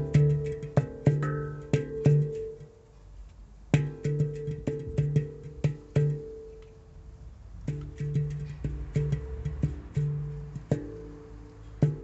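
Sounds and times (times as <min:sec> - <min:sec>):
handpan notes ringing: 0:00.0 - 0:02.8, 0:03.8 - 0:07.0, 0:07.7 - 0:12.0.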